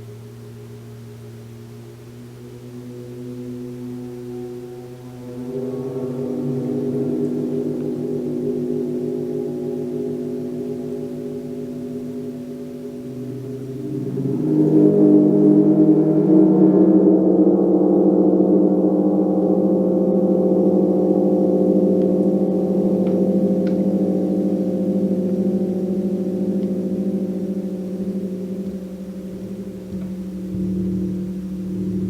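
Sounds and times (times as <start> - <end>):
gong ringing: 0.0 - 32.0.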